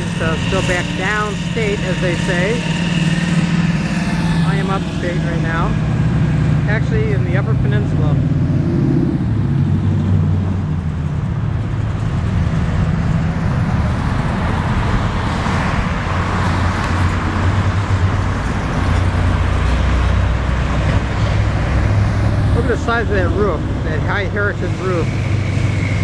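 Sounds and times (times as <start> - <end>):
car engines rumbling past: 0.0 - 26.0
car passing close: 0.0 - 26.0.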